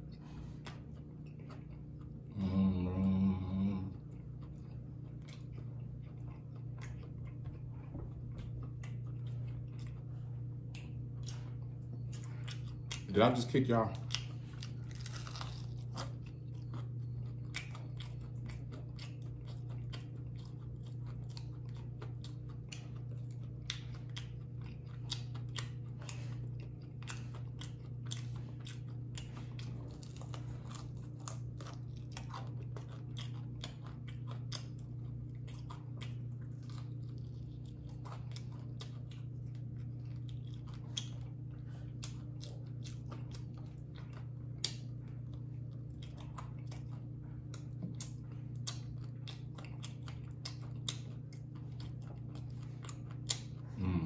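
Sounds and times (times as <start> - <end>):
crunchy chewing: 0.0 - 54.0
steady low hum: 0.0 - 54.0.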